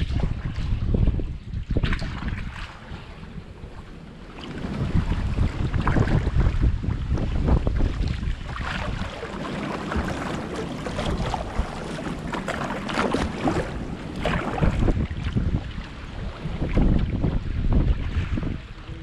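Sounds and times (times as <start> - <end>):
water splashing against kayak: 0.0 - 19.0
wind on microphone: 0.0 - 19.0.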